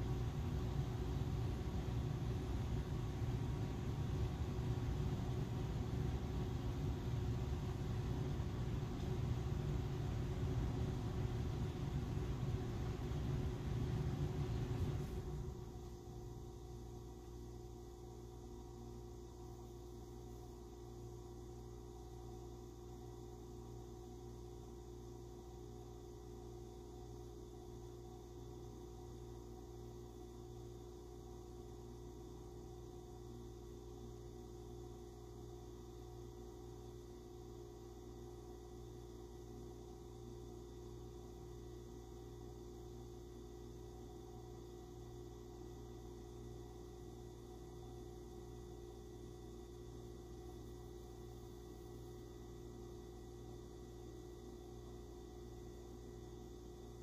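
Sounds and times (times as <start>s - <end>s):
low hum with steady tones: 0.0s - 57.0s.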